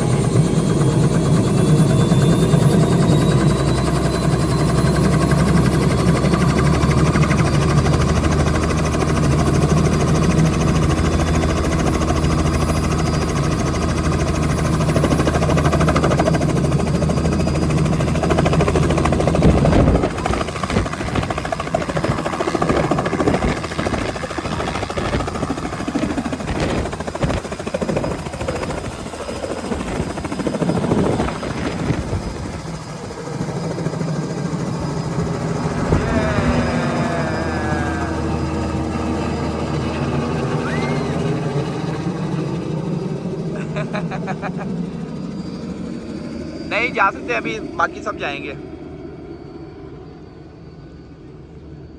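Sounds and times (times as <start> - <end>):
helicopter engine and rotor hum: 0.0 - 51.9.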